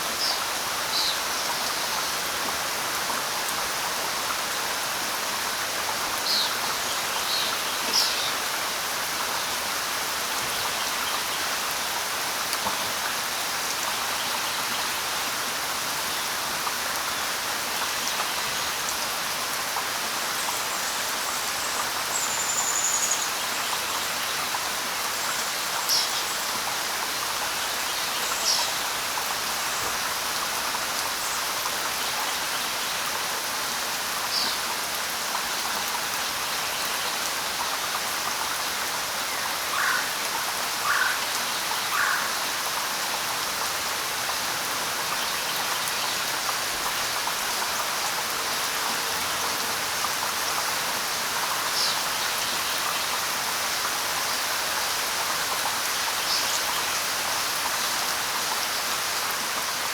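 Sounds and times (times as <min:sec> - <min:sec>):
light rain hiss: 0:00.0 - 0:59.9.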